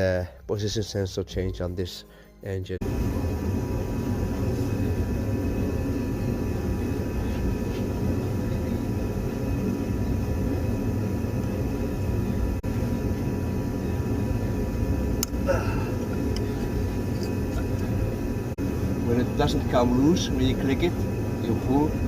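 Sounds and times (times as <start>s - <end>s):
faint steady whine: 2.1s - 22.0s
low rumbling noise: 2.8s - 22.0s.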